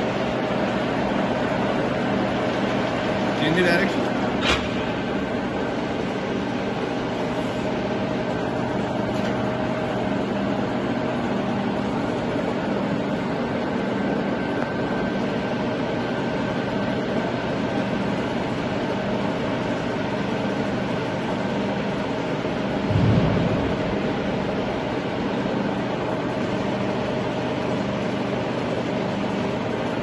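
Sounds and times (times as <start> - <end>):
machine hum with gear whine: 0.0 - 30.0.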